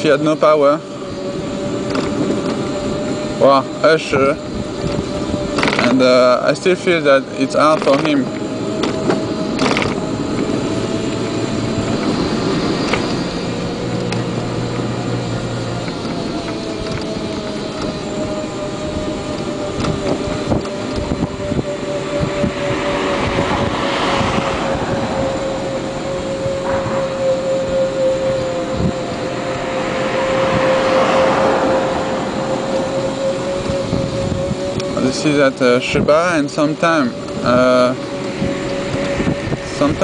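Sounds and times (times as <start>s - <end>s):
electric motorcycle motor whining: 0.0s - 40.0s
wind and road noise: 0.0s - 40.0s.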